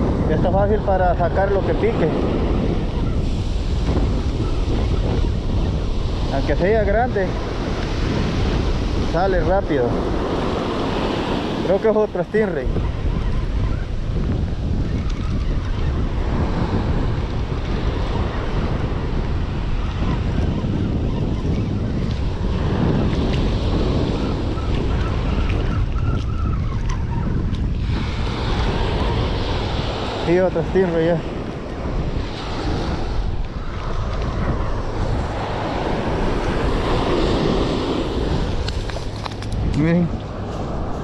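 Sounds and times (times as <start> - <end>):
surf washing on beach: 0.0 - 41.0
wind buffeting microphone: 0.0 - 41.0.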